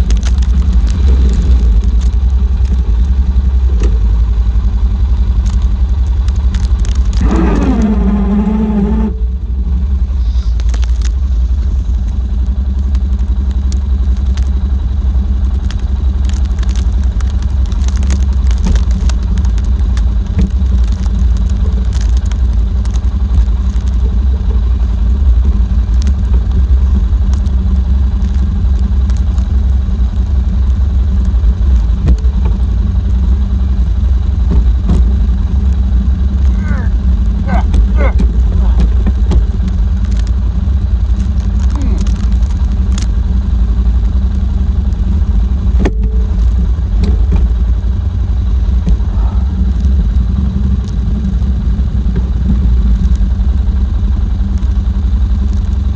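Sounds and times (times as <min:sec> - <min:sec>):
atv engine running: 0:00.0 - 0:55.9
rattles and clicks: 0:00.0 - 0:55.9.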